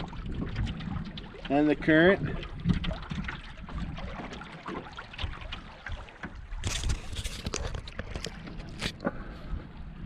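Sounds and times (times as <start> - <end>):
paddle splashes: 0.0 - 10.0
wind rumble on microphone: 0.0 - 10.0.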